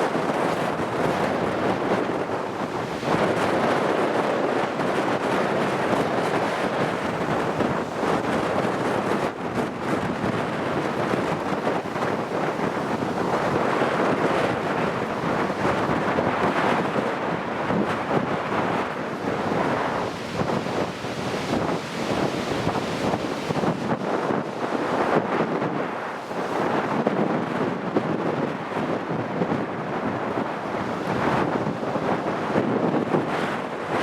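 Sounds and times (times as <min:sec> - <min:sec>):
waves washing: 0:00.0 - 0:34.0
wind buffeting the microphone: 0:00.0 - 0:34.0.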